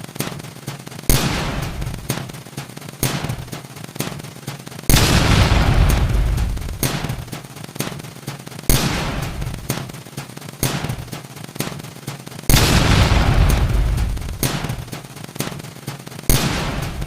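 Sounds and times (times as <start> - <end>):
harsh noise bursts: 0.0 - 17.0
rapid crackling clicks: 0.0 - 17.0.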